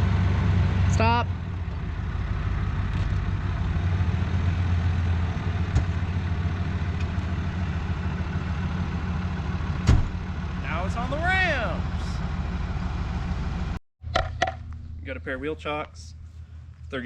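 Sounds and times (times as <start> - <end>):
car engine idling: 0.0 - 13.8.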